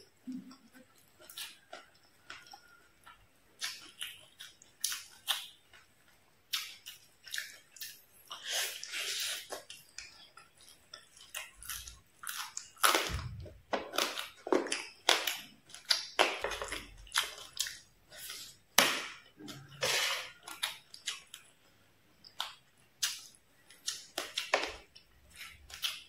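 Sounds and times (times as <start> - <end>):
chewing crispy fried fish: 0.0 - 26.0.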